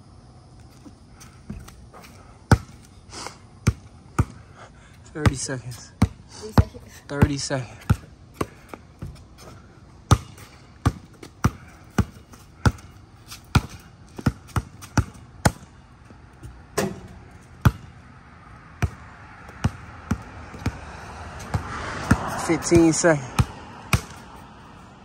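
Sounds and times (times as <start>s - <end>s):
basketball bouncing on concrete: 0.8s - 2.9s, 3.6s - 4.5s, 5.2s - 18.1s, 18.7s - 24.5s.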